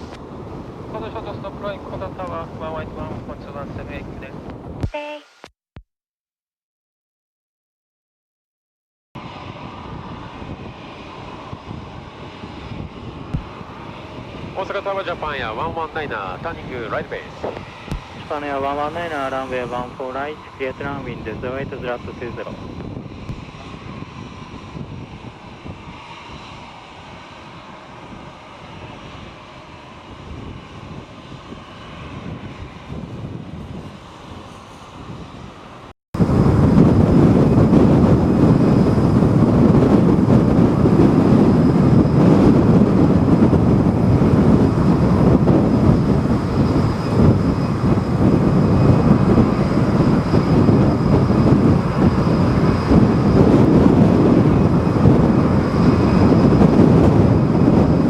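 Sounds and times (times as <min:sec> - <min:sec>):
jet engines: 0:00.0 - 0:05.2, 0:09.2 - 0:58.0
wind buffeting microphone: 0:09.2 - 0:58.0.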